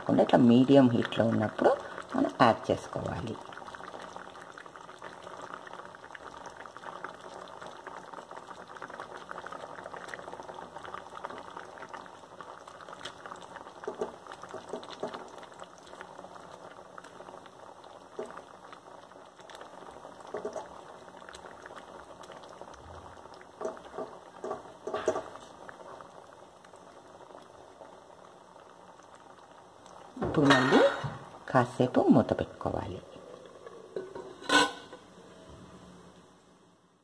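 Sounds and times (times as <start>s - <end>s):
gravy bubbling in a pan: 0.0s - 37.0s.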